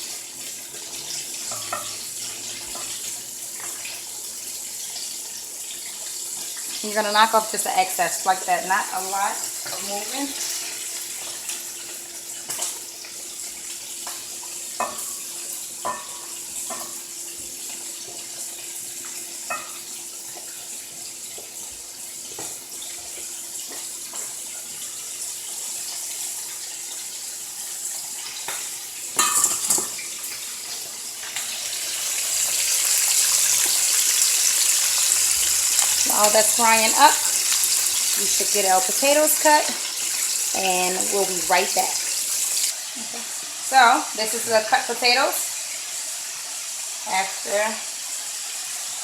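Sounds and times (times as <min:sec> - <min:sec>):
chicken wings sizzling in oil: 0:00.0 - 0:49.0.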